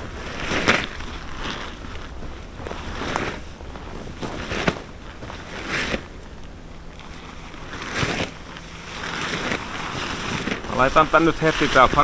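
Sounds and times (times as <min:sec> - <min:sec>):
footsteps on sandy ground: 0:00.0 - 0:12.0
tarp rustling: 0:00.0 - 0:12.0.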